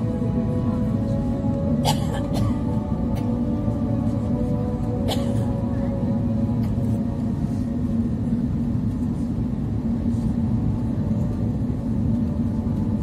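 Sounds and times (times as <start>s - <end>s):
airliner engines and airflow rumble: 0.0s - 13.0s
constant low hum: 0.0s - 13.0s.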